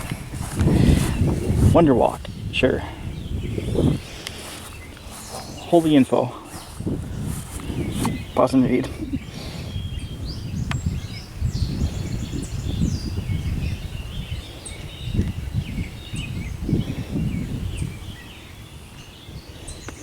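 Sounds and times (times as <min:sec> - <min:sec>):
birds chirping and singing: 0:00.0 - 0:20.0.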